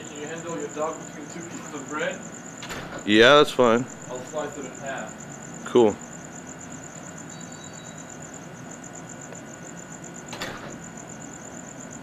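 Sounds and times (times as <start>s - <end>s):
crickets chirping: 0.0s - 12.0s
steady hiss: 0.0s - 12.0s.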